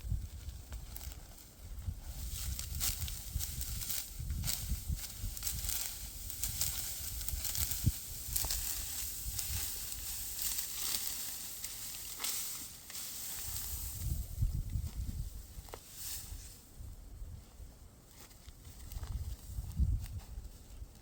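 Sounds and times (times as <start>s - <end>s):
wind rumble on microphone: 0.0s - 10.6s, 13.3s - 17.9s, 18.6s - 21.0s
dry rustling and crackling: 0.0s - 16.7s, 18.0s - 21.0s.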